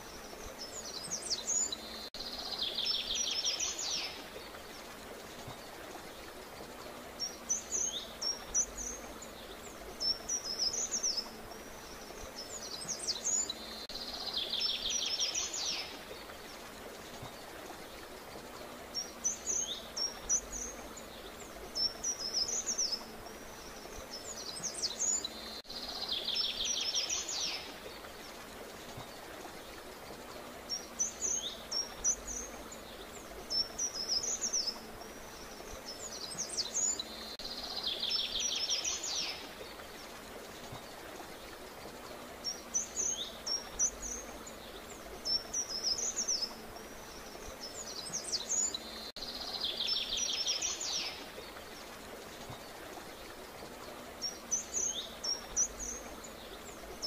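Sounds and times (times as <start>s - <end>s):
faint background hiss: 0.0s - 57.0s
songbirds chirping: 0.0s - 57.0s.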